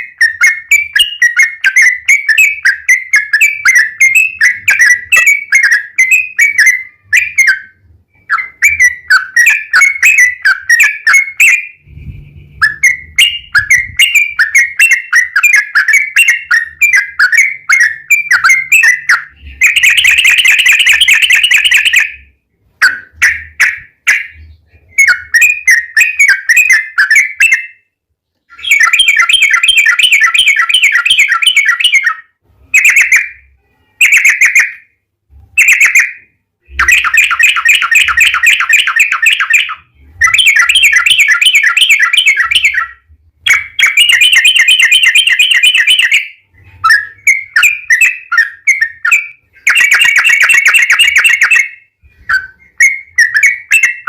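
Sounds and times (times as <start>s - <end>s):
bird song with bubbly whistles: 0.0s - 27.9s, 28.5s - 35.0s, 35.6s - 54.0s.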